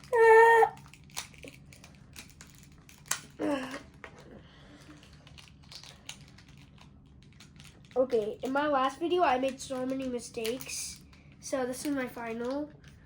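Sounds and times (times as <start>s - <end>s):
plastic puzzle pieces clicking: 0.8s - 8.6s, 9.4s - 11.1s, 11.8s - 13.0s.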